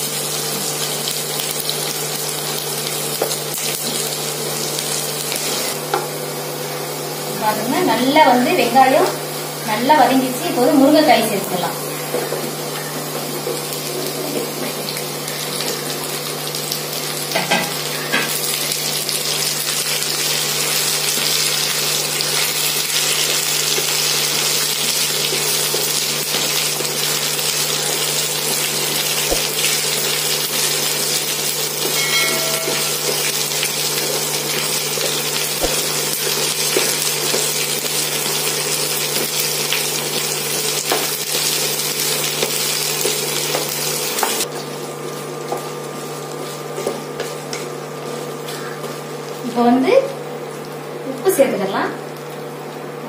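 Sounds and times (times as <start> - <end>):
vegetables frying in hot oil: 0.0 - 53.0.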